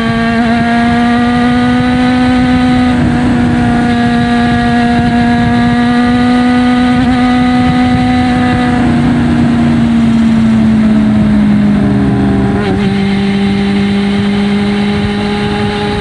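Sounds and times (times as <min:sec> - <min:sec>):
motorcycle engine at raised revs: 0:00.0 - 0:16.0.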